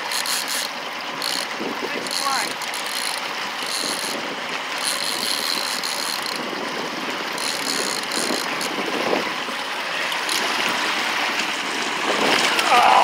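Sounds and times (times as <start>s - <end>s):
fishing reel ratcheting whir: 0.0s - 10.9s.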